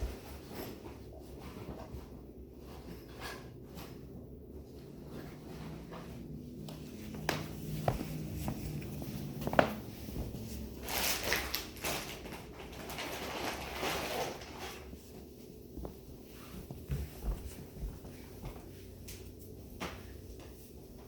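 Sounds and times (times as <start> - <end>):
rustling scraping noise: 0.0 - 17.6.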